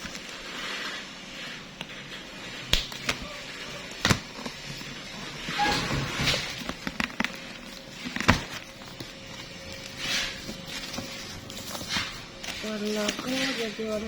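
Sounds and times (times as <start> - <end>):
packaging rustling: 0.0 - 14.0.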